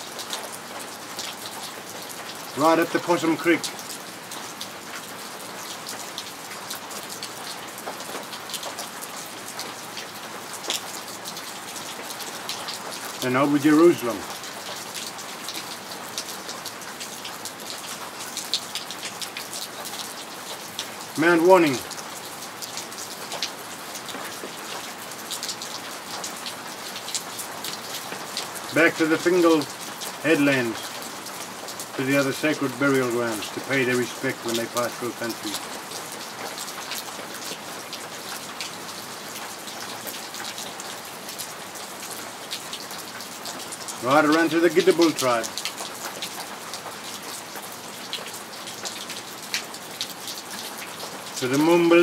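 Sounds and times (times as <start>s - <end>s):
raindrops ticking: 0.0s - 52.0s
steady rain falling: 0.0s - 52.0s.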